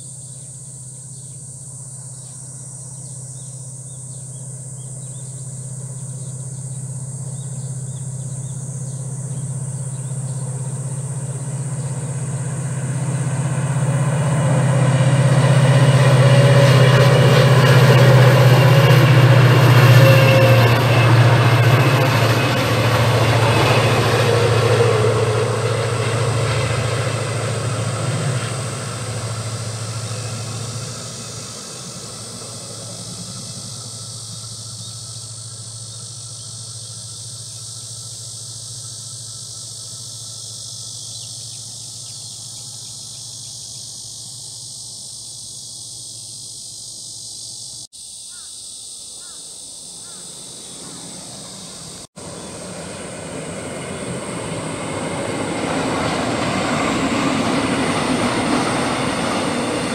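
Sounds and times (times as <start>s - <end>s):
train rumbling along track: 0.0s - 47.8s, 49.7s - 59.9s
insects chirring: 0.0s - 59.9s.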